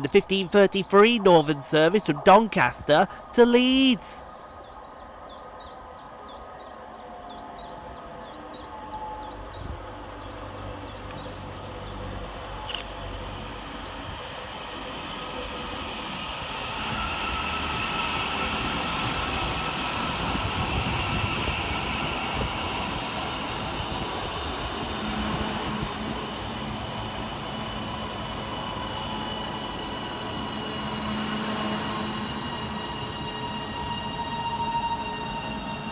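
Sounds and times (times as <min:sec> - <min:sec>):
train whine: 0:00.0 - 0:35.9.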